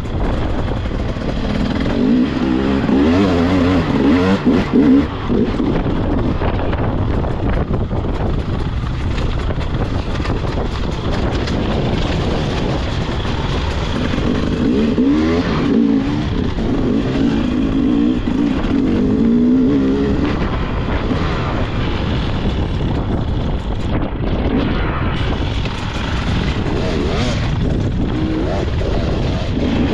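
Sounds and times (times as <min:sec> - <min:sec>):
motorcycle engine revving: 0:00.0 - 0:29.9
wind rumble on microphone: 0:00.0 - 0:29.9.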